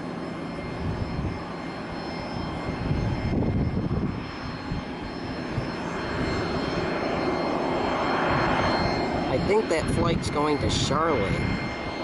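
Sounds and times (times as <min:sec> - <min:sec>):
jet engines whining: 0:00.0 - 0:12.0
wind buffeting microphone: 0:00.6 - 0:12.0.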